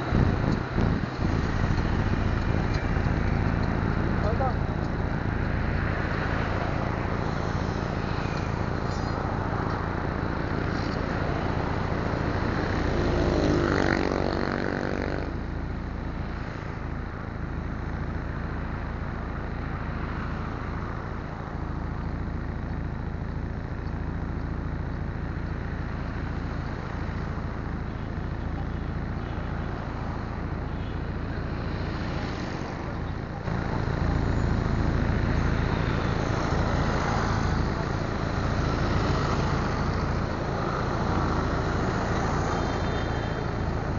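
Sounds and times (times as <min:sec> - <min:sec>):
low engine hum: 0:00.0 - 0:43.9
roadside traffic noise: 0:00.0 - 0:43.9.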